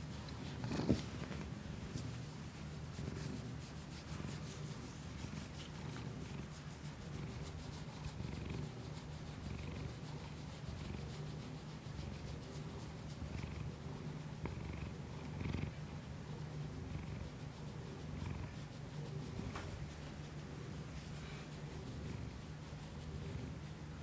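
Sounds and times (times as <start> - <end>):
cat purring: 0.0 - 24.0.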